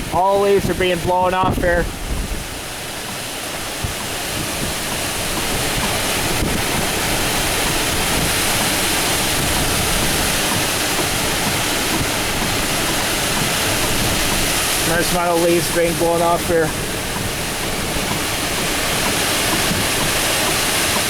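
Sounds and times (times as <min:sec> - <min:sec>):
strong wind rushing through trees: 0:00.0 - 0:21.0.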